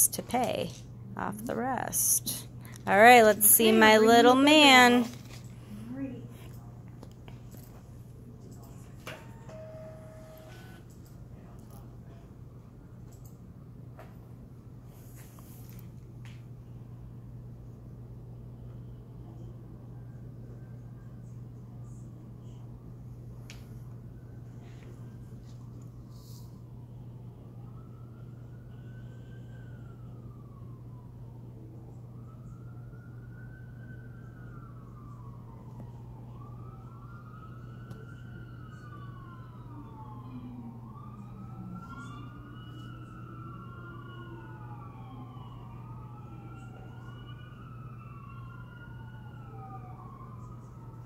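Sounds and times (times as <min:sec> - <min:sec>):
faint sirens wailing: 0:00.0 - 0:13.9, 0:16.8 - 0:51.0
steady low hum: 0:00.0 - 0:51.0.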